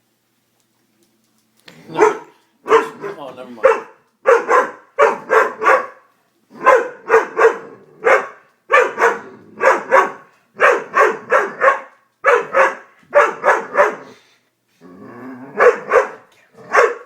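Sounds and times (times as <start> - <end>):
dog barking: 1.8 - 14.1, 15.6 - 17.0.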